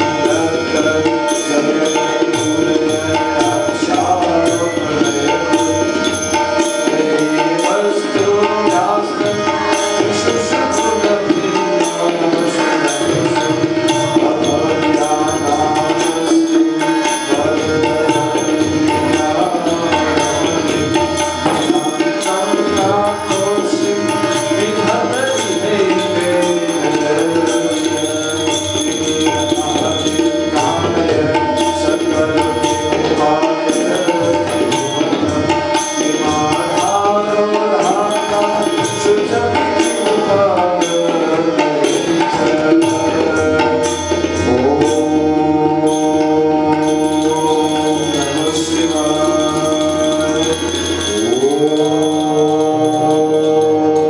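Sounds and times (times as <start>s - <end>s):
harmonium melody: 0.0s - 54.0s
tabla drumming: 0.0s - 54.0s.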